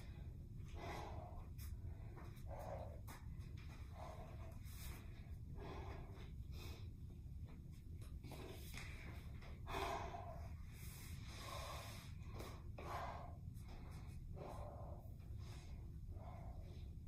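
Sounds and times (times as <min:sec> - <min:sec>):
woman breathing hard: 0:00.0 - 0:07.4, 0:08.1 - 0:17.0
faint low hum: 0:00.0 - 0:17.0.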